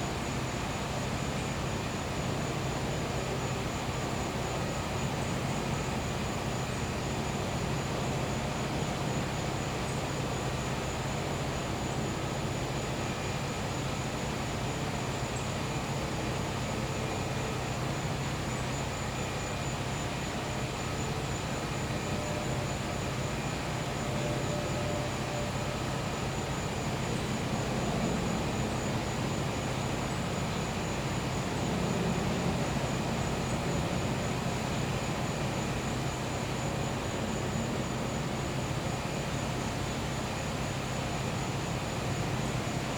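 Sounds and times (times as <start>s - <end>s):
insect trill: 0.0s - 42.9s.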